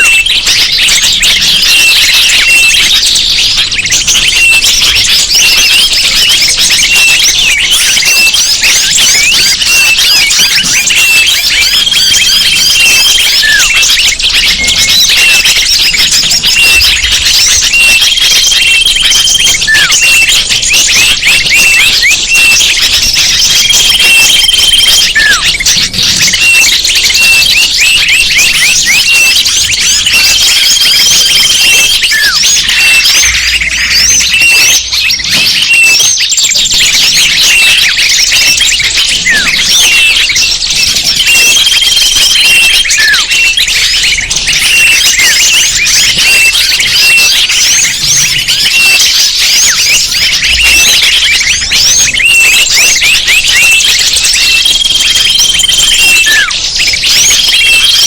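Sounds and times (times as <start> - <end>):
held whistle and falling call: 0.0 - 58.0
small birds chirping: 0.0 - 58.0.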